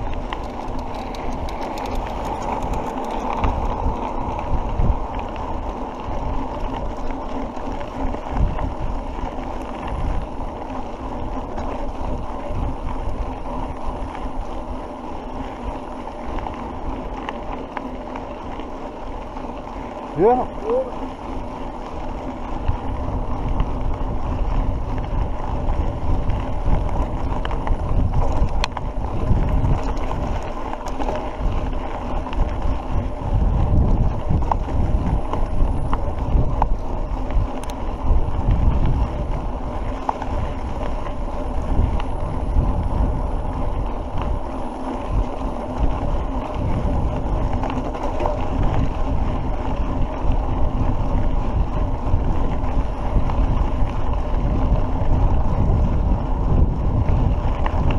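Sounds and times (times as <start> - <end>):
bike clicks from bumps: 0.0 - 57.9
mountain bike rolling on dirt: 0.0 - 57.9
wind buffeting microphone: 0.0 - 57.9.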